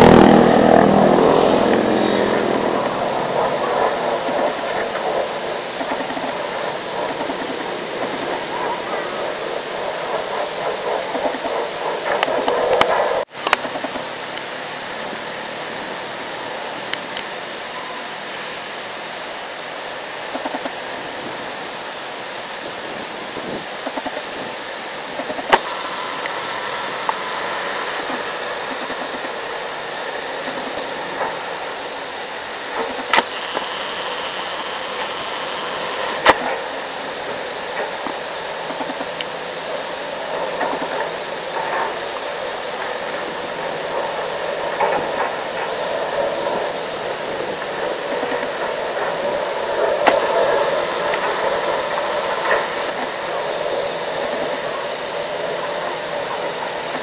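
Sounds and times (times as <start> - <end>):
excavator engine drone: 0.0 - 57.0.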